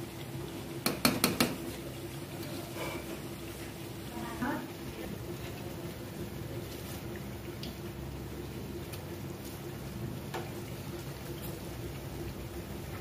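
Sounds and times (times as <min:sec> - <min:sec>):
deep-frying sizzle: 0:00.0 - 0:13.0.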